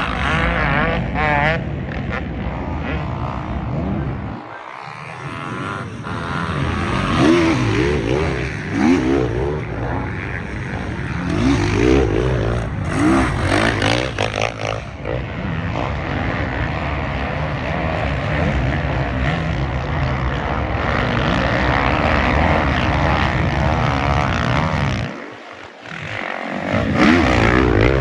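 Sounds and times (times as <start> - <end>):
racing engines revving: 0.0 - 28.0.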